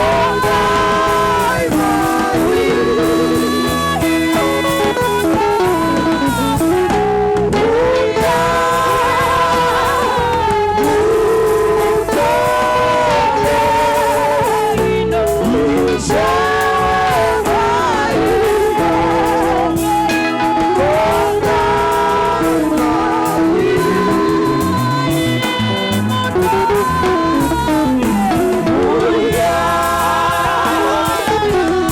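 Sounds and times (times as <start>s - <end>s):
guitar accompaniment: 0.0s - 31.9s
voices singing gospel song: 0.0s - 31.9s.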